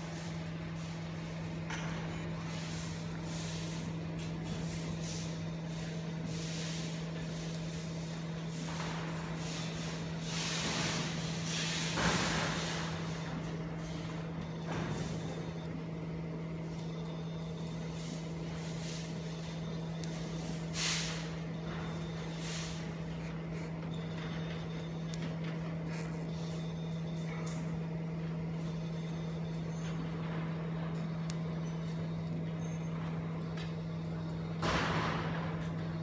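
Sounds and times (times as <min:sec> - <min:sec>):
fan-like noise: 0:00.0 - 0:36.0
machine humming: 0:00.0 - 0:36.0.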